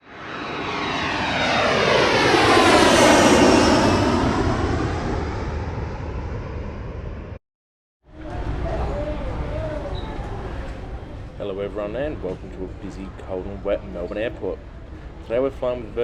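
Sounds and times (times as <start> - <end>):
airliner flying past: 0.0 - 7.4, 8.1 - 16.0.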